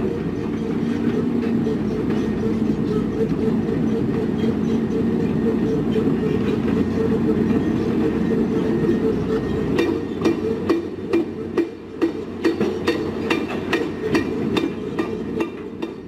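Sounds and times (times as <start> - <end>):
construction machinery rumbling: 0.0 - 16.0.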